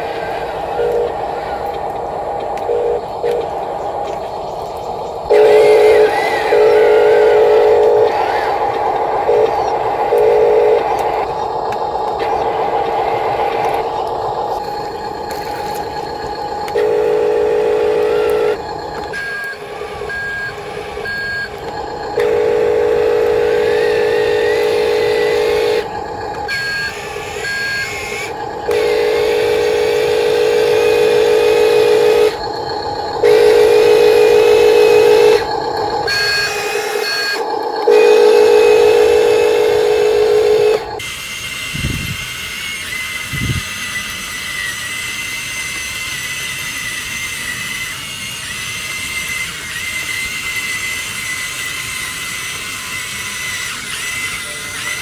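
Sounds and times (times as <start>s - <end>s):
electric motor whining: 0.0s - 55.0s
electronic buzzing warning tone: 0.0s - 55.0s.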